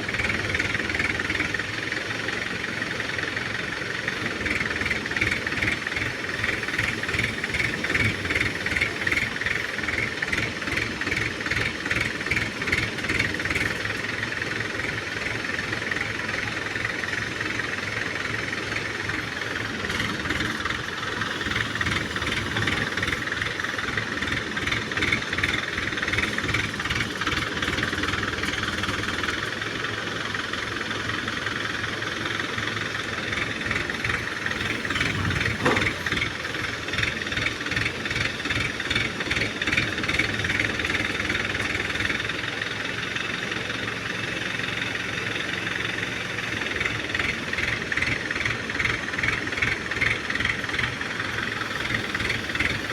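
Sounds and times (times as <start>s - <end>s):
diesel engine pulsing: 0.0s - 52.9s.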